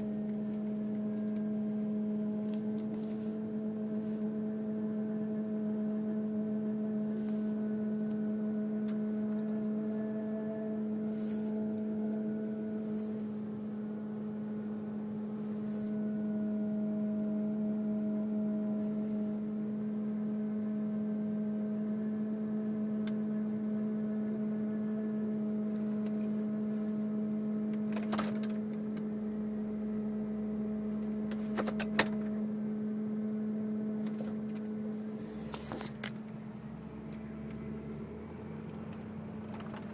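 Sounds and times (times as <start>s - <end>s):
car engine compartment hum: 0.0s - 39.9s.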